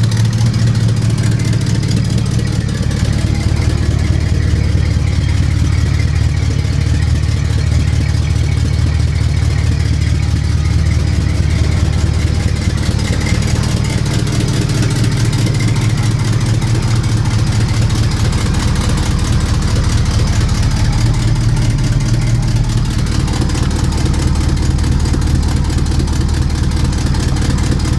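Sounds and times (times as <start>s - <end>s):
car engine idling loudly: 0.0s - 27.9s.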